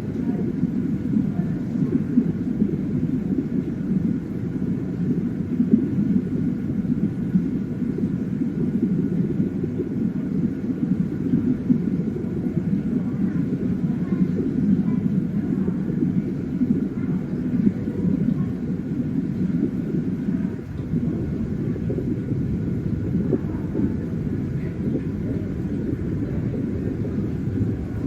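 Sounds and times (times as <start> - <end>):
underwater low rumble: 0.0 - 28.0.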